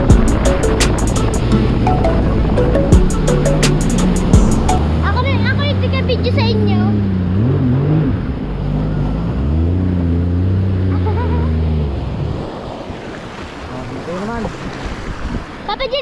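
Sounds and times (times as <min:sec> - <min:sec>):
jet ski engine running: 0:00.0 - 0:16.0
water noise: 0:00.0 - 0:16.0
wind: 0:00.0 - 0:16.0.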